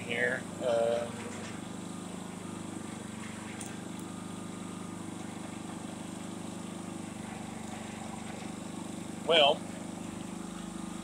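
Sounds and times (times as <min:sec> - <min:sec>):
generator running: 0:00.0 - 0:11.0.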